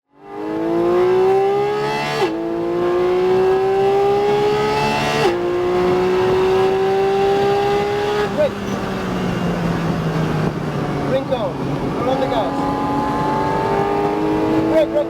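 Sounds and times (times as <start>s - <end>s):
sports car accelerating hard: 0.1s - 15.0s.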